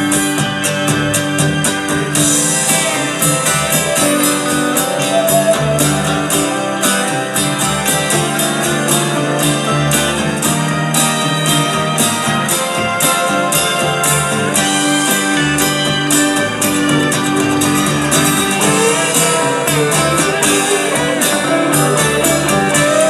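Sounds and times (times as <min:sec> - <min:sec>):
instrumental rock music: 0:00.0 - 0:23.0.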